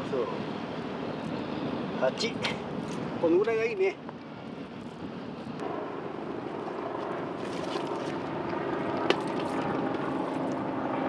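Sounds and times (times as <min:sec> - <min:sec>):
distant engine drone: 0:00.0 - 0:11.0.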